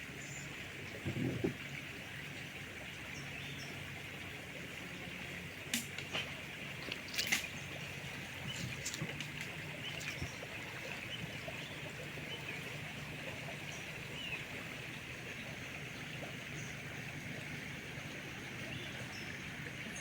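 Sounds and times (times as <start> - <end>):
running river water: 0.0 - 20.0.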